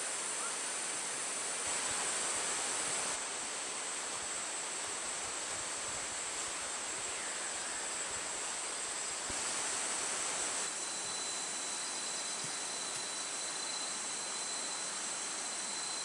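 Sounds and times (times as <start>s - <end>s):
high-pitched insect drone: 0.0s - 16.0s
steady hiss: 0.0s - 16.0s
thin high steady whine: 0.0s - 16.0s.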